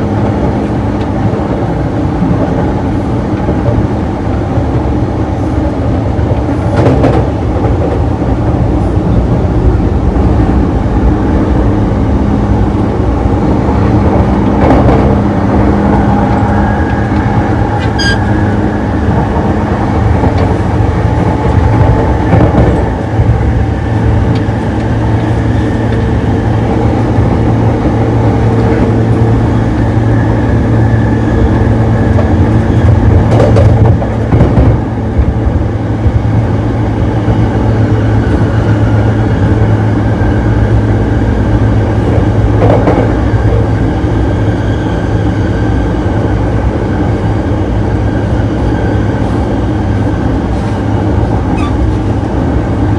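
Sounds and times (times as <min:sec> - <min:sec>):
train wheels rumbling: 0:00.0 - 0:52.9.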